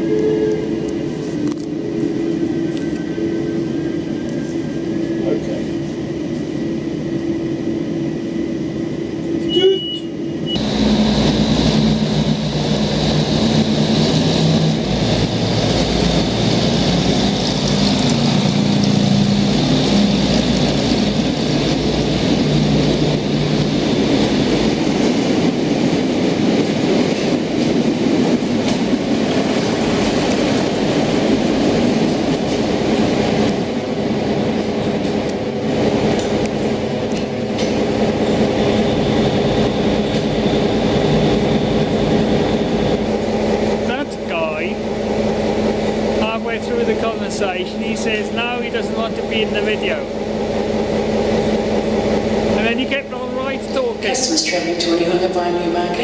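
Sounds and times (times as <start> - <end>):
train engine drone: 0.0 - 56.0
train wheel and rail noise: 0.0 - 56.0.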